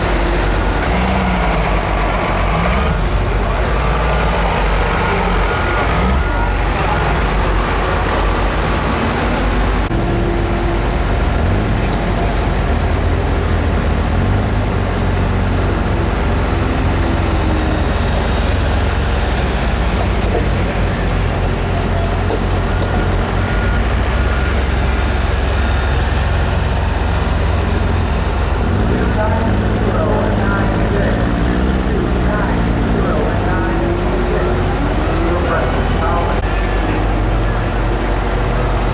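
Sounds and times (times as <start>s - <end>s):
diesel tractor engine under load: 0.0s - 38.9s.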